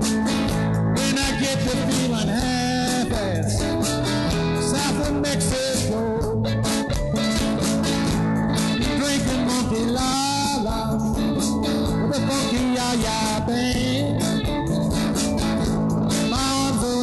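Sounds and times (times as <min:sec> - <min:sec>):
drums: 0:00.0 - 0:17.0
guitars playing: 0:00.0 - 0:17.0.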